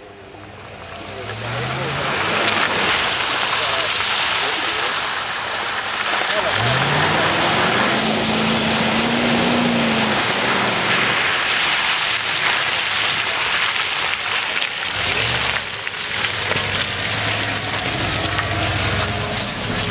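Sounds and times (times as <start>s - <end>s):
low engine hum: 0.0s - 12.6s, 14.8s - 19.9s
mud and water spraying: 0.3s - 19.9s
truck engine revving: 0.5s - 19.9s.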